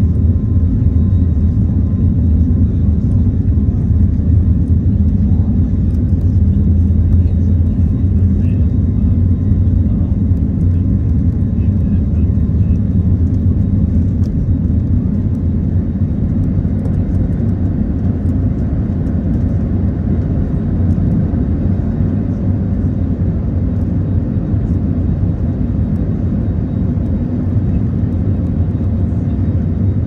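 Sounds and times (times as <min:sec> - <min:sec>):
jet engines rumbling in cabin: 0:00.0 - 0:30.0.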